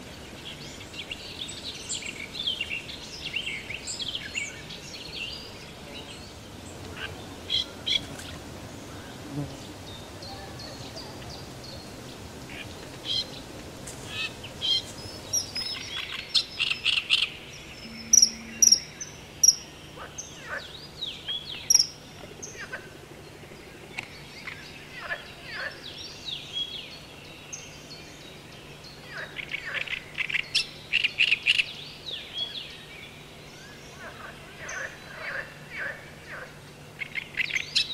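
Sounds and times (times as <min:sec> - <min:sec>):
small birds calling and singing: 0:00.0 - 0:37.9.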